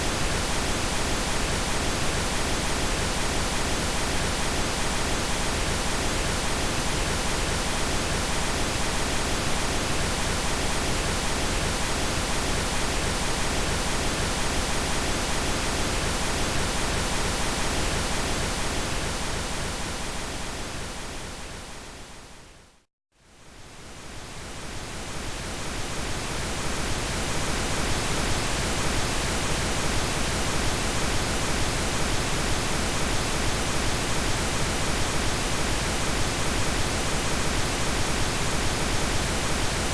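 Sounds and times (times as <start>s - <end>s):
pink noise hiss: 0.0s - 22.2s, 23.4s - 39.9s.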